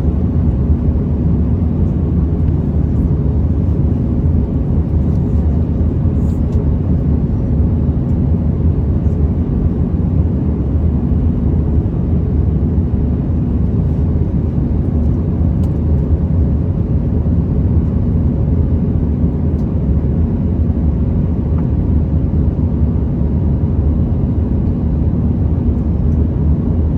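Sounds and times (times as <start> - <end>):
aircraft cabin engine rumble: 0.0 - 26.9.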